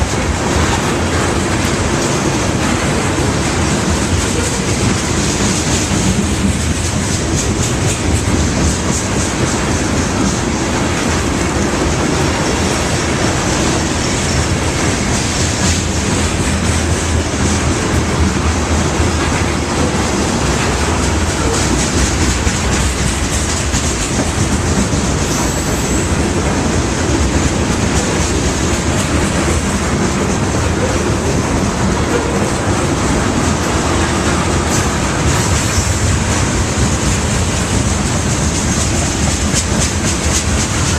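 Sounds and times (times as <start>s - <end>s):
train wheels clacking over rail joints: 0.0s - 40.9s.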